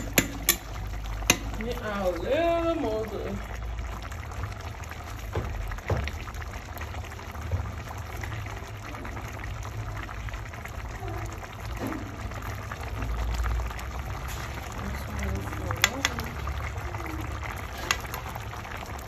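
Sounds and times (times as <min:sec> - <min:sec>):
pot of water boiling: 0:00.0 - 0:19.0.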